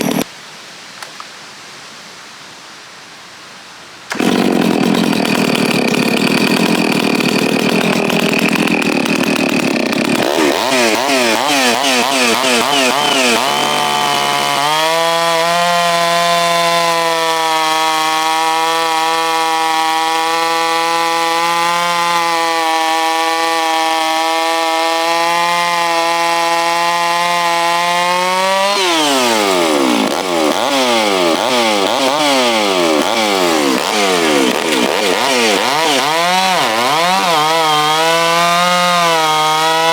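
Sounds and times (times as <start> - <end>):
chainsaw revving: 0.0 - 0.2, 4.1 - 39.9.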